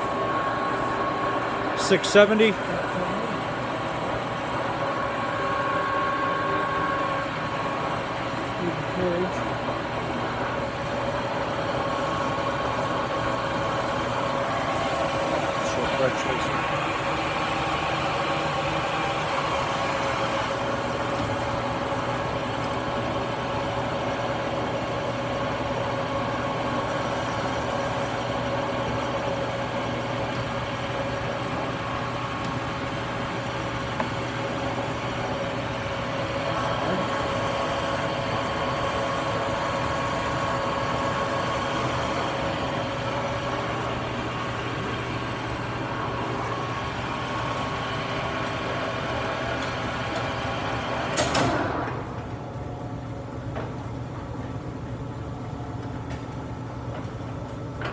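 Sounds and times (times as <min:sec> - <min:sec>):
gear whine: 0:00.0 - 0:52.4
lathe humming: 0:00.0 - 0:53.0.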